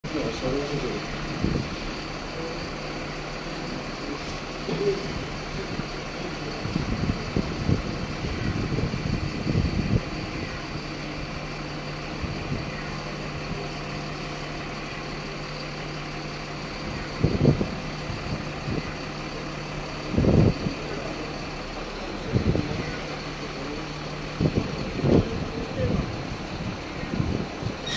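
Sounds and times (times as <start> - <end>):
diesel engine idling: 0.0 - 27.9
low engine rumbles: 0.0 - 27.9.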